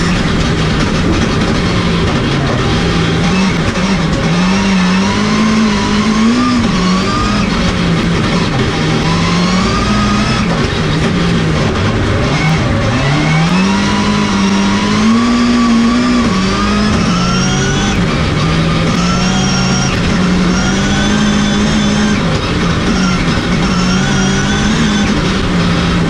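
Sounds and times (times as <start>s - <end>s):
high rising whines: 0.0s - 26.0s
race car engine driving hard: 0.0s - 26.0s.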